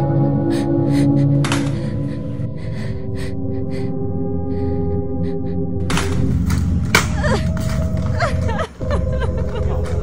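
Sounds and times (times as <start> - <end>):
droning background music: 0.0 - 10.0.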